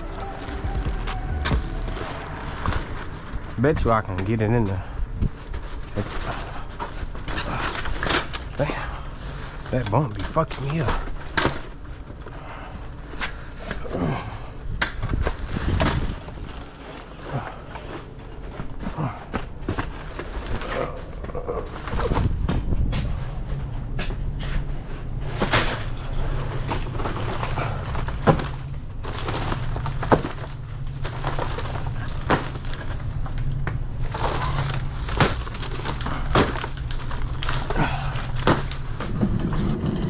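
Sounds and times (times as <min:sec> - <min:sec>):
drink cases clattering: 0:00.0 - 0:13.6, 0:15.1 - 0:22.7, 0:25.1 - 0:40.0
steady low hum: 0:00.0 - 0:40.0.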